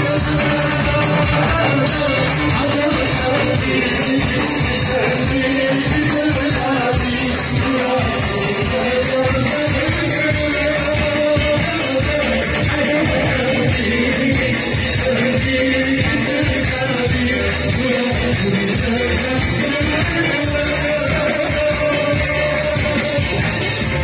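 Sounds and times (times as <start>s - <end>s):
person singing: 0.0s - 24.0s.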